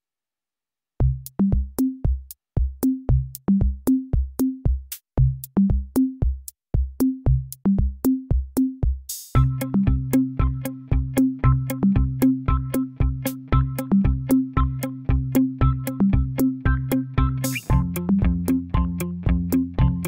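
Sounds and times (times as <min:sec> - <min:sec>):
drum machine beat with bass: 0:01.0 - 0:20.0.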